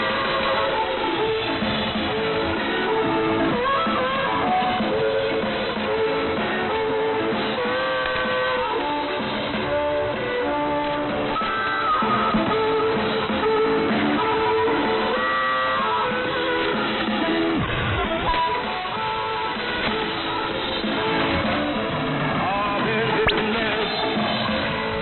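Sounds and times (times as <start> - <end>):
guitar music over shortwave radio: 0.0 - 25.0.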